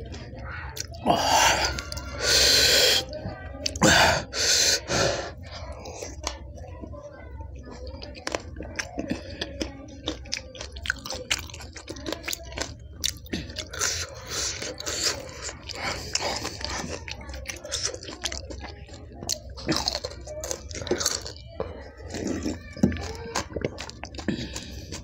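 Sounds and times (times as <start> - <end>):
chewing and crunching chillies: 0.0 - 25.0.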